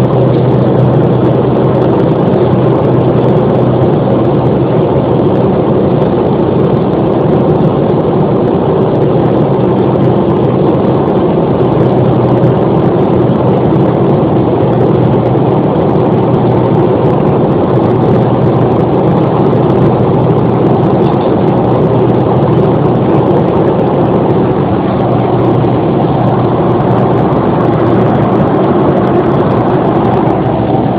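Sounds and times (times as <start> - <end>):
airliner engine hum: 0.0 - 30.9
rushing air: 0.0 - 30.9.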